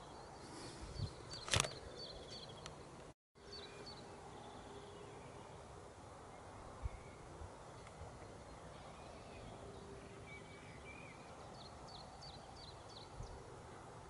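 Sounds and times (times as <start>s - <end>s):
faint distant birdsong: 0.0s - 14.0s.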